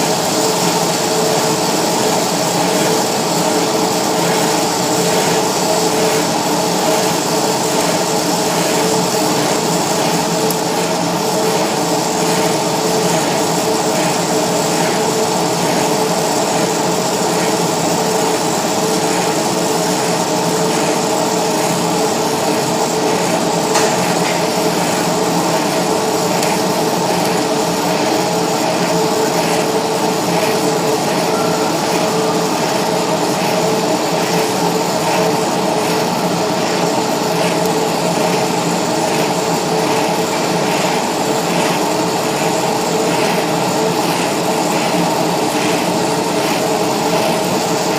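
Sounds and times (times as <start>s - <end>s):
steady hum: 0.0s - 47.9s
welding torch flame hissing: 0.0s - 47.9s.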